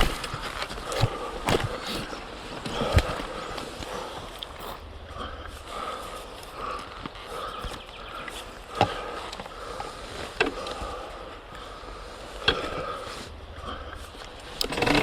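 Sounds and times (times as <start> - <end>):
person breathing hard: 0.0 - 14.6.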